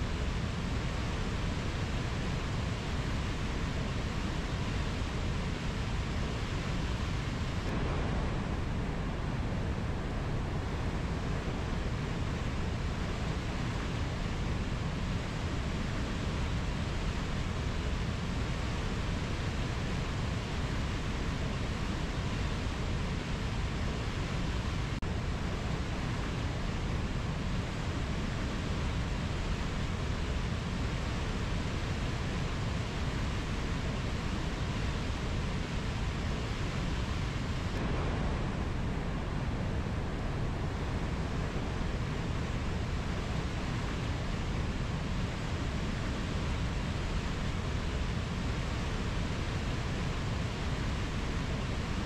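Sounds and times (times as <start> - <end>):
river rushing over rapids: 0.0 - 52.0.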